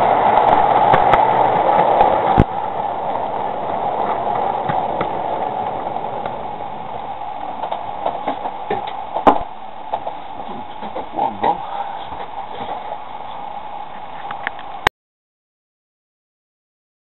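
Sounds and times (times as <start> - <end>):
model train running hum: 0.0 - 14.9.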